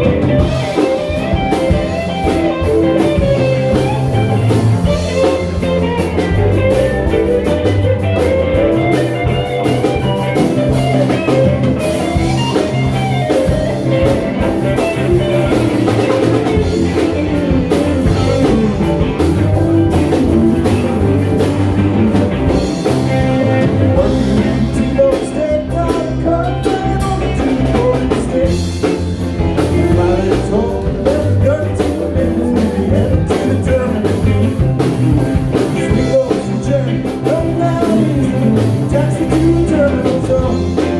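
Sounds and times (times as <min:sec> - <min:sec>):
live blues-rock band playing: 0:00.0 - 0:40.9.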